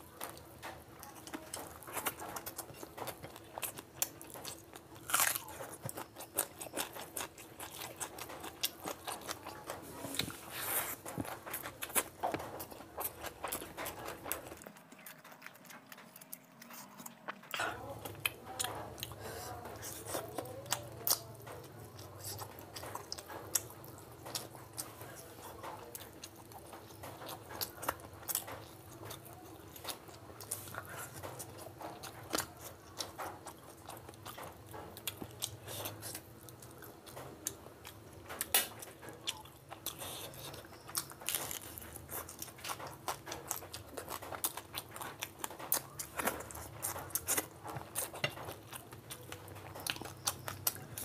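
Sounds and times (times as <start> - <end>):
person chewing and biting: 0.2 - 51.0.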